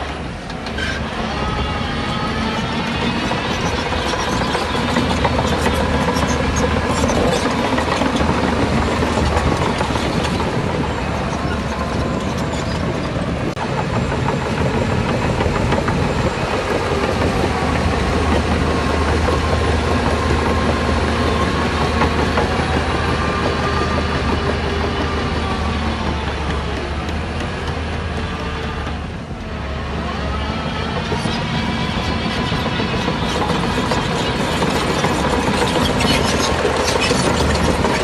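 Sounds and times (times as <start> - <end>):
machinery clatter: 0.0 - 29.4, 30.2 - 38.0
diesel engine drone: 0.0 - 38.0.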